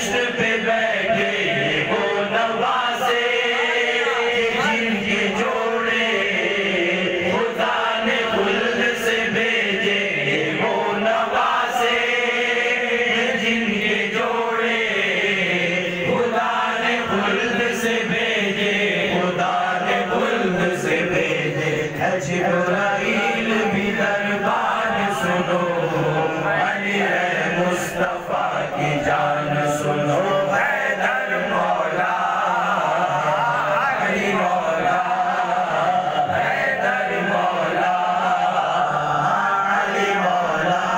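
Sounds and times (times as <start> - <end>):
men singing devotional song: 0.0 - 40.9.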